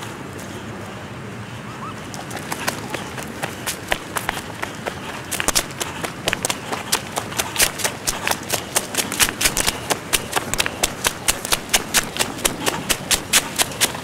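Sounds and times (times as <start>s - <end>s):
running footsteps on dirt path: 2.0s - 14.0s.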